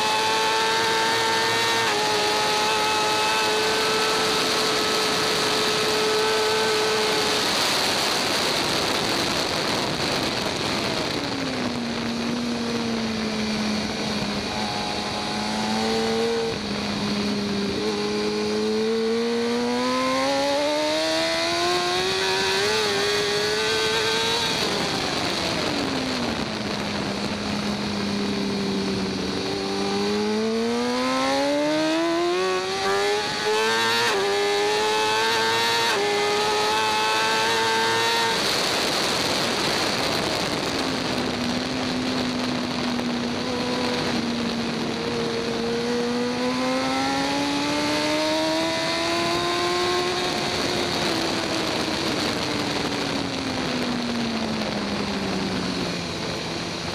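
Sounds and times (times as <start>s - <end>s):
motorcycle engine revving: 0.0s - 56.9s
steady rushing noise: 0.0s - 56.9s.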